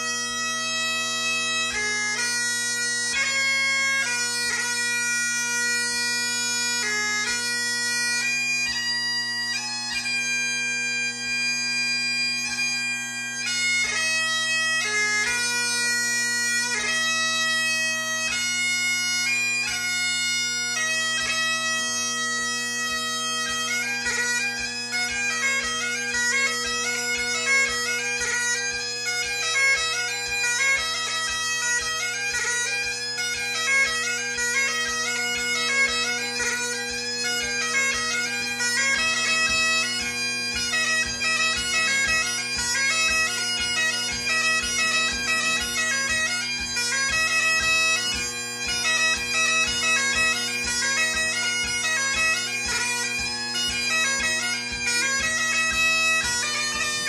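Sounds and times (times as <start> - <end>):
bagpipe playing: 0.0 - 57.0.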